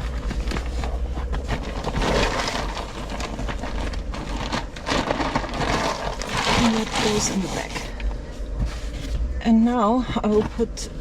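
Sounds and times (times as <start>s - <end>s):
papers and binders rustling: 0.0s - 11.0s.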